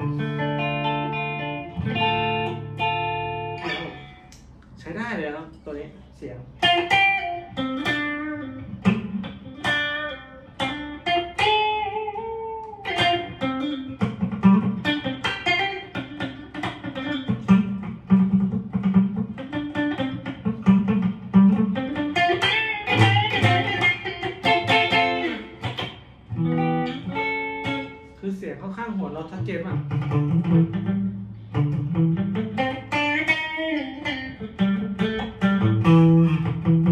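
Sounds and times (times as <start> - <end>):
clean electric guitar: 0.0 - 4.8, 5.4 - 36.9.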